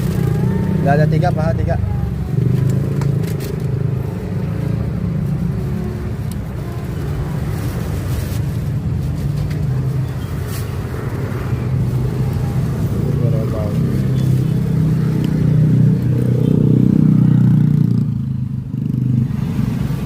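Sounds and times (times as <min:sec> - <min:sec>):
street traffic: 0:00.0 - 0:20.0
vehicle engine humming: 0:00.0 - 0:20.0.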